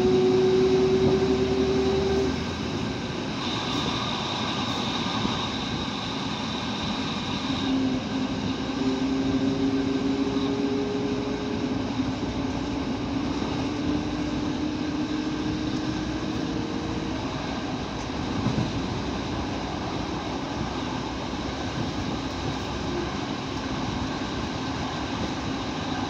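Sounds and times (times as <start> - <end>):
railcar engine droning: 0.0 - 26.0
wheel and rail rumble: 0.0 - 26.0.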